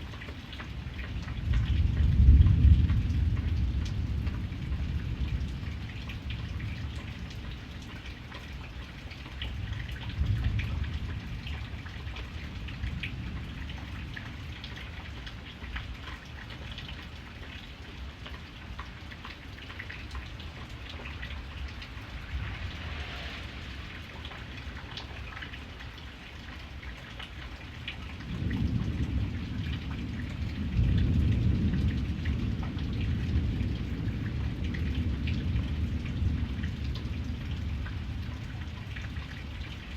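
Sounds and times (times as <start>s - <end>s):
raindrops ticking: 0.0s - 39.9s
steady rain: 0.0s - 39.9s
low rolling thunder: 1.2s - 8.2s, 9.4s - 17.0s, 19.8s - 26.8s, 27.8s - 39.9s.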